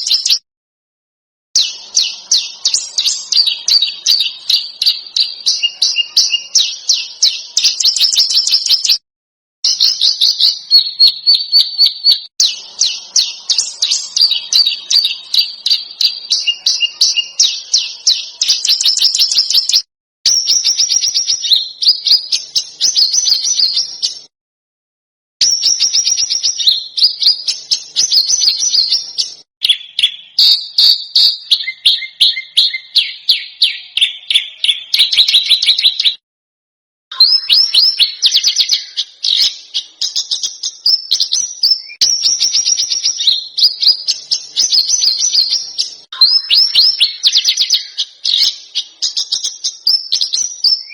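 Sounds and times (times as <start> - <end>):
songbird singing harsh high notes: 1.6 - 9.0, 9.6 - 24.3, 25.4 - 36.2, 37.1 - 50.9.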